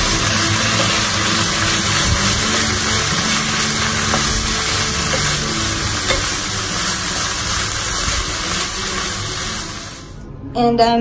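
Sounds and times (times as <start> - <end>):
sauce sizzling in hot pan: 0.0 - 10.2
wooden spatula stirring in pan: 0.0 - 10.2.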